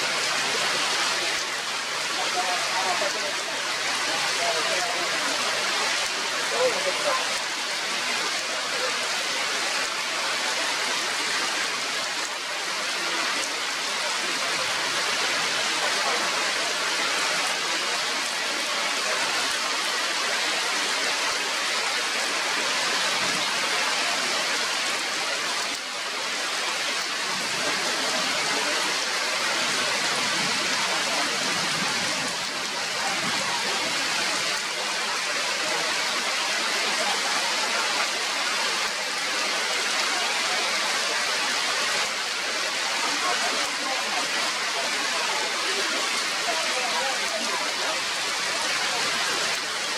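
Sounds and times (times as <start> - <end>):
rain falling on leaves: 0.0 - 49.9.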